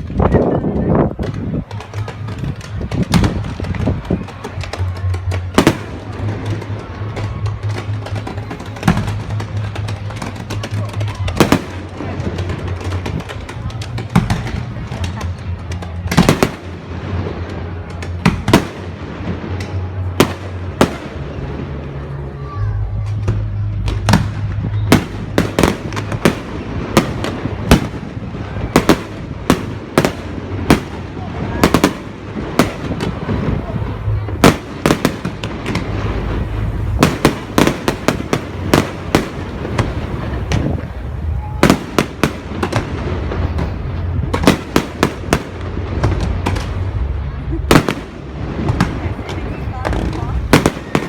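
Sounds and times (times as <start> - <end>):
fireworks pops: 0.0 - 16.8, 23.0 - 32.0, 34.3 - 47.0, 47.6 - 51.0
fireworks bangs: 0.0 - 22.2, 23.0 - 51.0
low rumble: 2.4 - 51.0.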